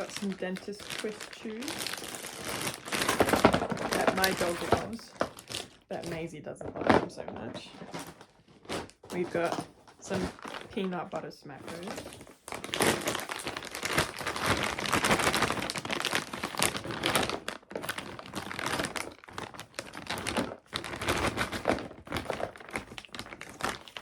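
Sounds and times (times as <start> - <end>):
plastic packet crinkling: 0.0 - 24.0.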